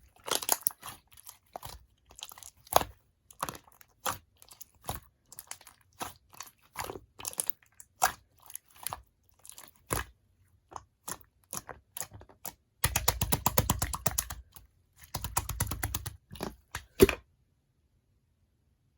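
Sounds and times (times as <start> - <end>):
slime squished by hand: 0.0 - 17.2.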